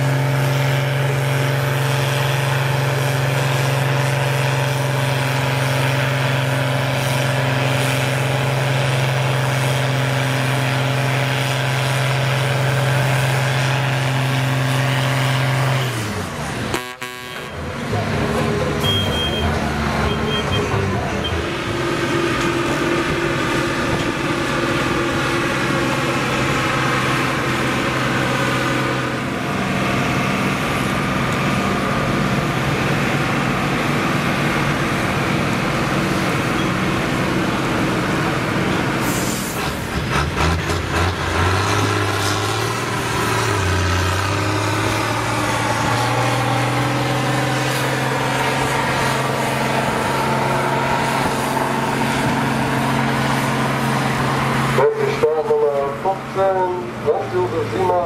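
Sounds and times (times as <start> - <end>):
diesel tractor engines droning: 0.0 - 58.0.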